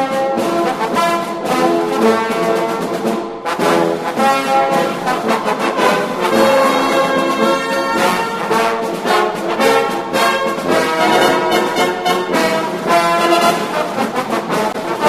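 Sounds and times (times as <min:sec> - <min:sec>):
brass and orchestral music: 0:00.0 - 0:15.0
steady beat: 0:00.0 - 0:15.0.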